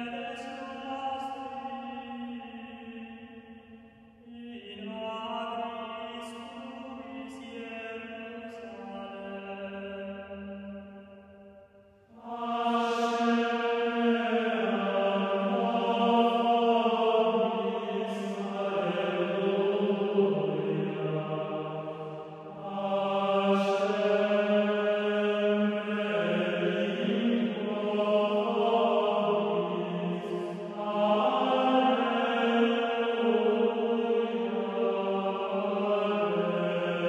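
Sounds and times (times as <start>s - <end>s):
slow sung chant: 0.0s - 37.0s.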